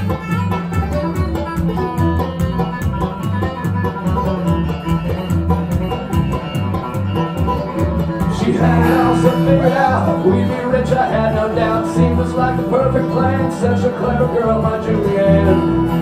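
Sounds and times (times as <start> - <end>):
bouncing bass line: 0.0 - 16.0
fast banjo picking: 0.0 - 16.0
strummed guitar: 0.0 - 16.0.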